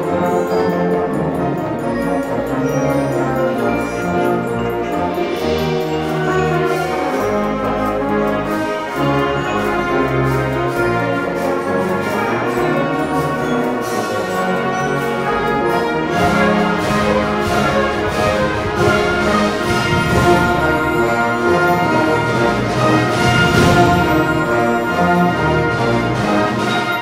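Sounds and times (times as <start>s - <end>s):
concert band playing chords: 0.0s - 27.0s
percussion strokes: 0.0s - 27.0s.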